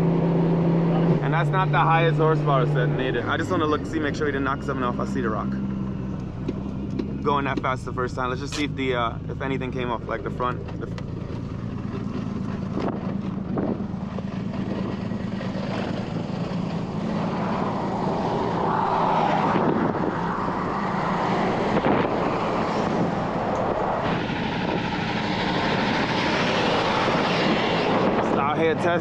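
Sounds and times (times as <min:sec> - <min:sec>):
truck passing on highway: 0:00.0 - 0:08.4, 0:09.5 - 0:29.0
low engine hum: 0:00.0 - 0:29.0.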